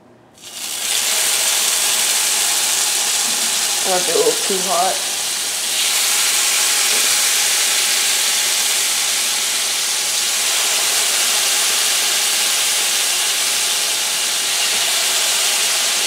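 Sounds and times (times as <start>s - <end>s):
meat sizzling in a skillet: 0.4s - 16.0s.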